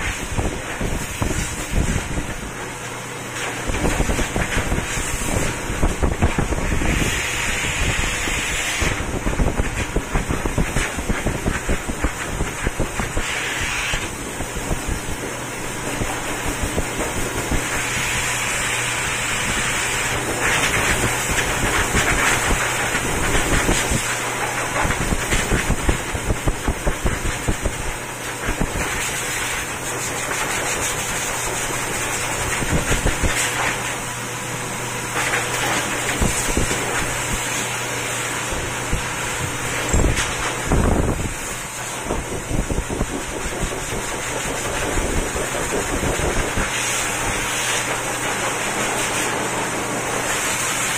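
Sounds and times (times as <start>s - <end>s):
pet dryer blowing air: 0.0s - 50.9s.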